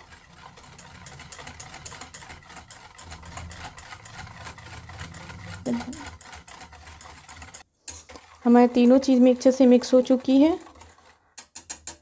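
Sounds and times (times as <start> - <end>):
whisk clicking in metal bowl: 0.0 - 12.0.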